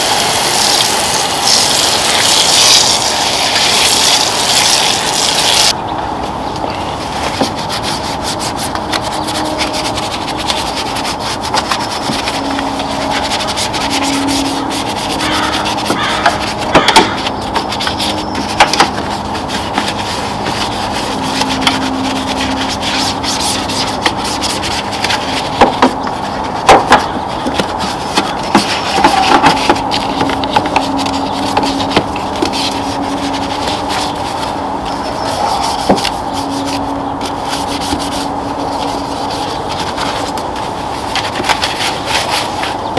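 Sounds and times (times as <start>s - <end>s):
brush scrubbing wet foam: 0.0s - 5.8s, 6.9s - 42.9s.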